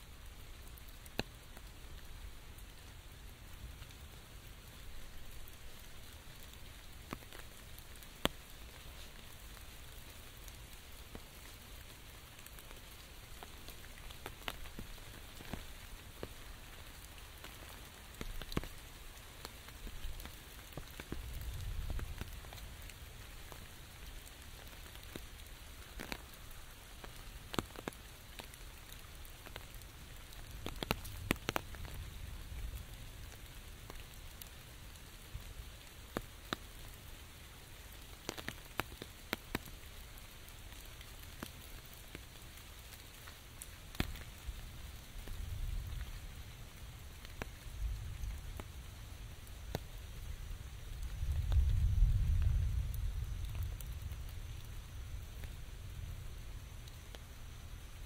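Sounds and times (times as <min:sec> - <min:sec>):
raindrops tapping umbrella: 0:00.0 - 0:56.0
rain hissing: 0:00.0 - 0:58.0.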